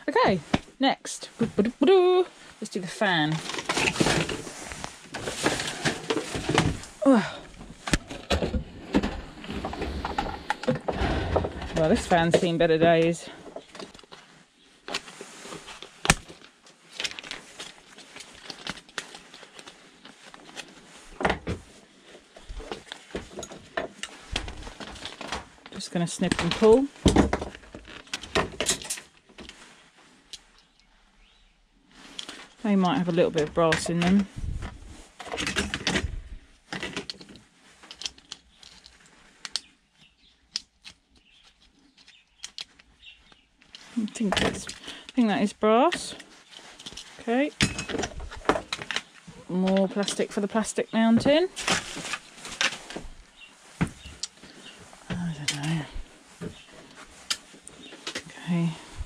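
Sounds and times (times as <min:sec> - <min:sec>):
rustle of handling: 0:00.3 - 0:59.0.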